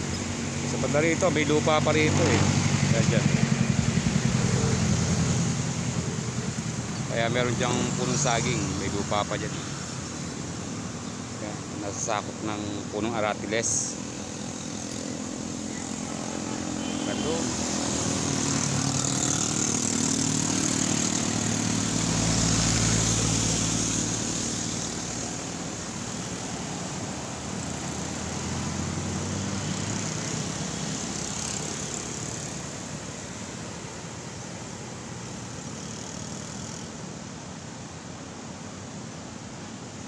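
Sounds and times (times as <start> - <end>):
steady rushing noise: 0.0 - 40.0
vehicle engine humming: 0.0 - 40.0.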